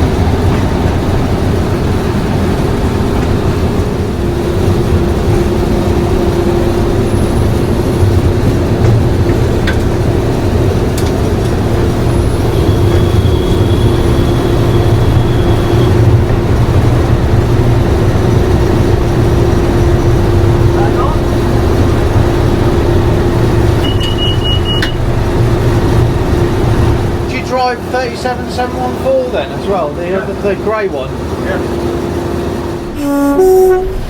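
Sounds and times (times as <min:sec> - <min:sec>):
diesel locomotive engine running: 0:00.0 - 0:34.0
steady whine: 0:00.0 - 0:34.0.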